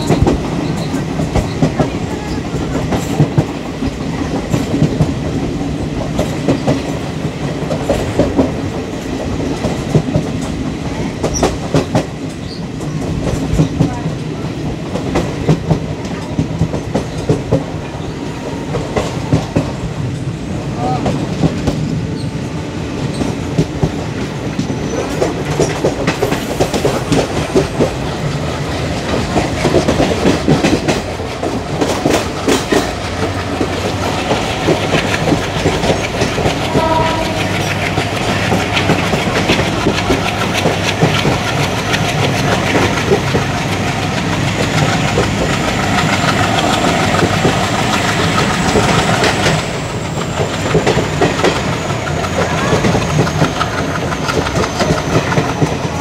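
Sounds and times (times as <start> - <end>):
train wheels clickety-clack: 0.0 - 56.0.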